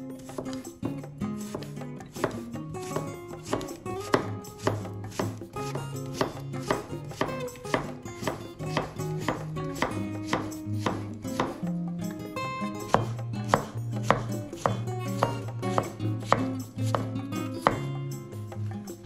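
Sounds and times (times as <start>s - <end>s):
knife chopping on wooden board: 0.2s - 11.7s, 12.6s - 18.0s.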